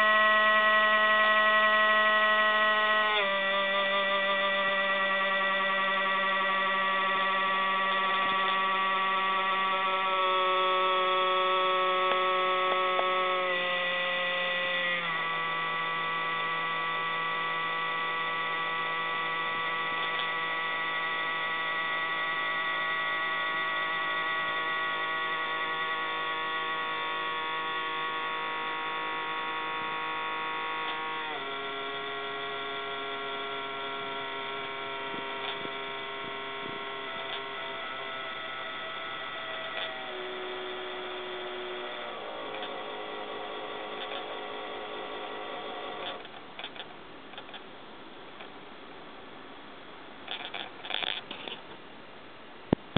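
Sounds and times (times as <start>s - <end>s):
recorder electrical hum: 0.0s - 52.9s.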